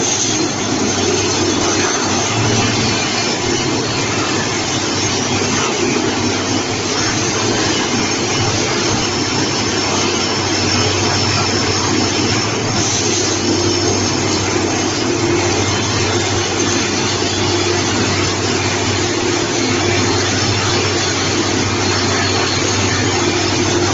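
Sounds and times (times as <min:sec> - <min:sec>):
rebar machine humming: 0:00.0 - 0:23.9.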